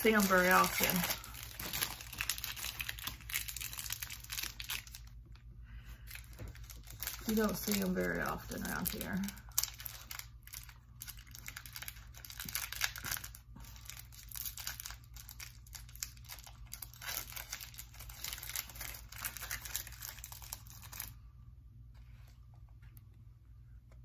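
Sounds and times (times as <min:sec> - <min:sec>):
plastic wrapper crinkling and tearing: 0:00.0 - 0:21.2.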